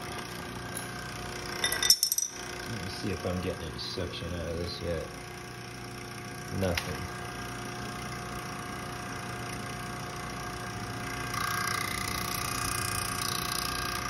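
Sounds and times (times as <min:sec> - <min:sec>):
paint sprayer pump motor running: 0:00.0 - 0:14.0.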